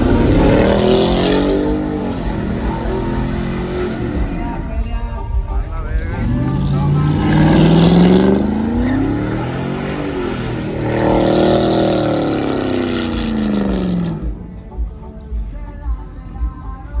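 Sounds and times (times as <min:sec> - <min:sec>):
truck engine revving: 0:00.0 - 0:15.3.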